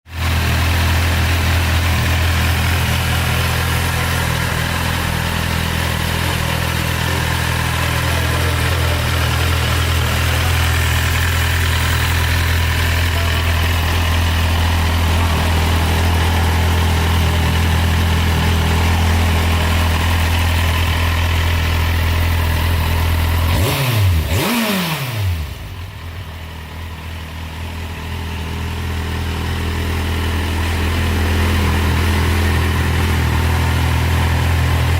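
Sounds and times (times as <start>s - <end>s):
motorcycle engine idling: 0.1s - 24.5s, 25.1s - 34.9s.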